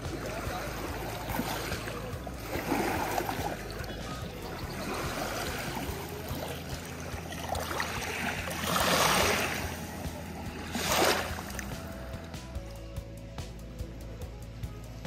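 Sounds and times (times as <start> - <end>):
water rushing and splashing: 0.0 - 12.4.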